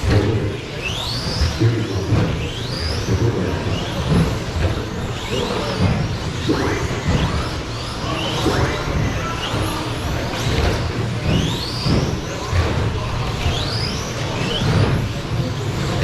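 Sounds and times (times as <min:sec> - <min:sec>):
rc truck motors whining: 0:00.0 - 0:16.0
track noise: 0:00.0 - 0:16.0.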